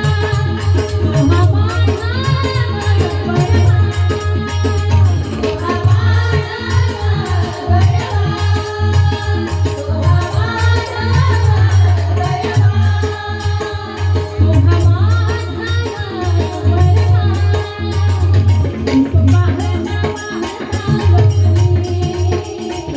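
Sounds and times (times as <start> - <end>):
drum beating: 0.0 - 22.9.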